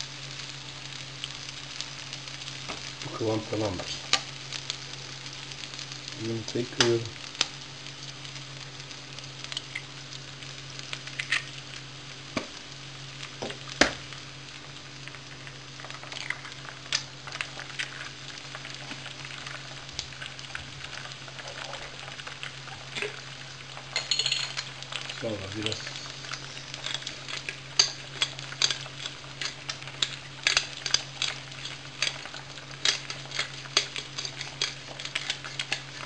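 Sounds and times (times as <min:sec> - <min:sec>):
potatoes sizzling in frying pan: 0:00.0 - 0:36.0
steady low hum: 0:00.0 - 0:36.0.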